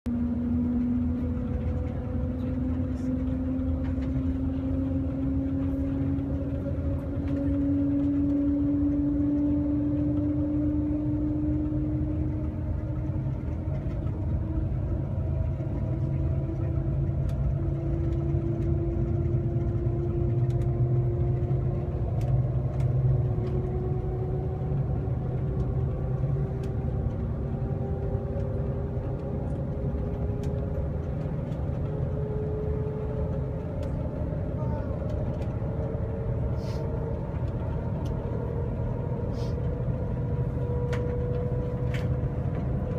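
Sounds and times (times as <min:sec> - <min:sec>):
rising whine of train: 0:00.1 - 0:42.9
train cabin rumble: 0:00.1 - 0:42.9.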